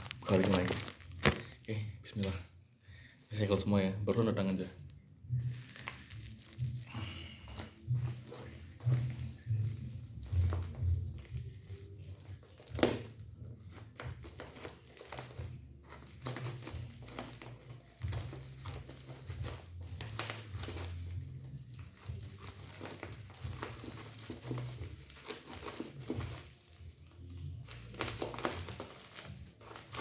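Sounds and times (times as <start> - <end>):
packaging crinkling and tearing: 0.0 - 2.4, 4.4 - 30.0.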